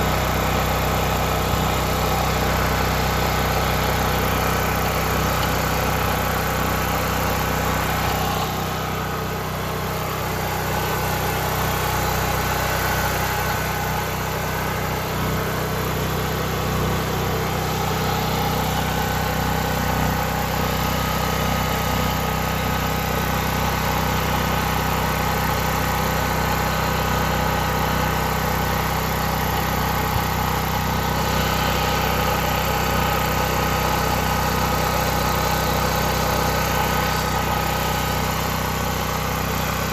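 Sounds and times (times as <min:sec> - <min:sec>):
portable generator engine running: 0:00.0 - 0:39.9.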